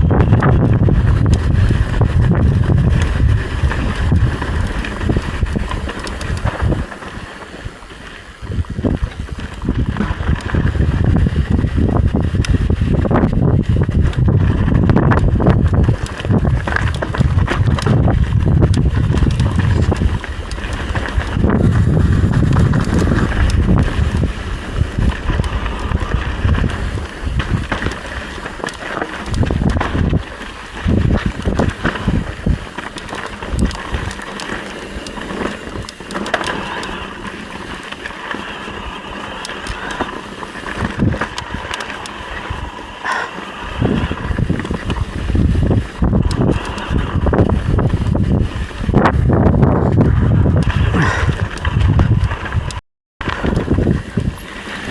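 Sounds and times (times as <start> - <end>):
wind buffeting microphone: 0.0 - 37.6, 38.6 - 54.9
bike rattles and knocks: 0.0 - 54.9.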